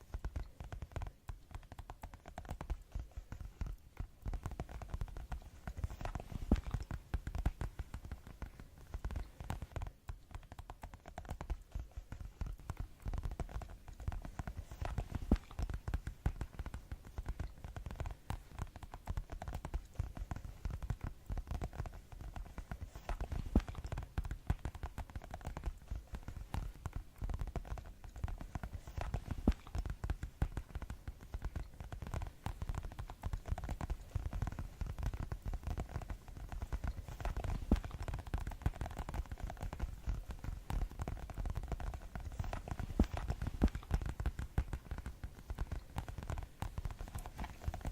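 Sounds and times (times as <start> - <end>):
fast tapping: 0.0 - 47.9.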